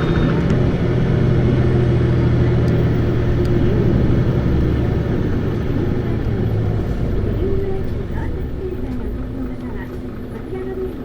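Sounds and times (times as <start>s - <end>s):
bus diesel engine rumble: 0.0s - 11.0s.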